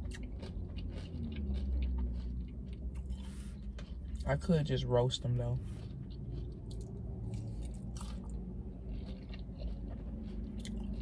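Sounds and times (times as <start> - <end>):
wet mouth clicks and crunches: 0.0 - 4.4, 5.6 - 11.0
person chewing food: 0.0 - 11.0
steady low hum: 0.0 - 11.0.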